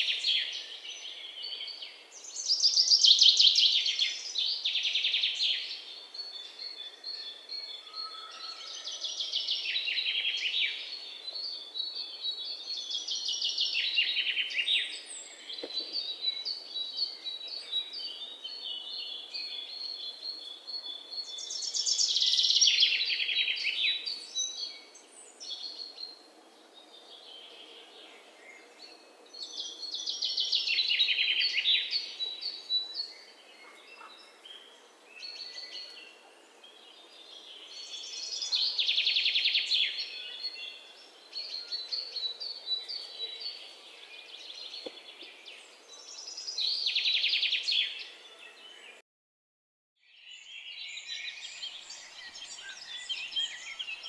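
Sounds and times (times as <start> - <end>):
songbirds singing: 0.0 - 49.0, 50.0 - 54.0.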